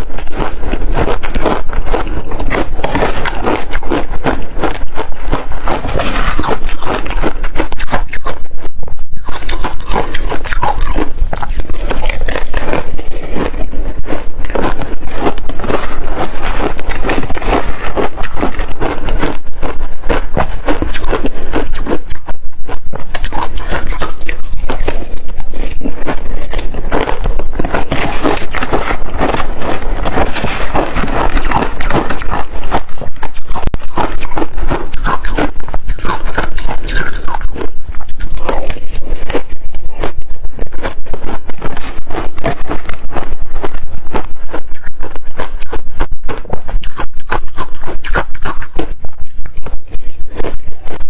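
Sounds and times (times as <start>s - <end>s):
biting and chewing ice: 0.0s - 51.0s.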